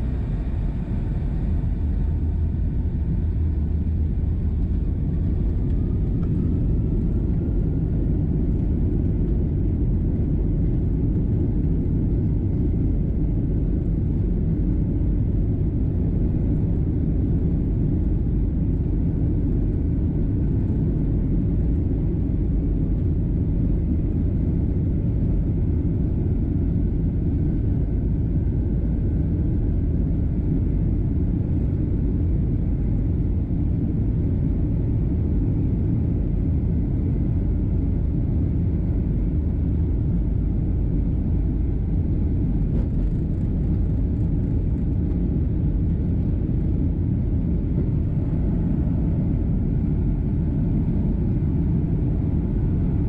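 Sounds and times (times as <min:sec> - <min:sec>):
faint rising engine whine: 0:00.0 - 0:53.0
jet engines rumbling: 0:00.0 - 0:53.0.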